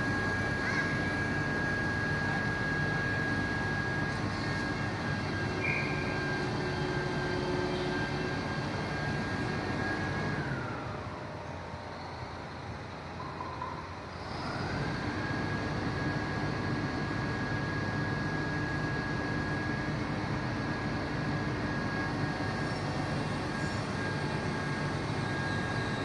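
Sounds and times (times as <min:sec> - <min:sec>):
fire truck engine running: 0:00.0 - 0:13.2, 0:13.9 - 0:26.0.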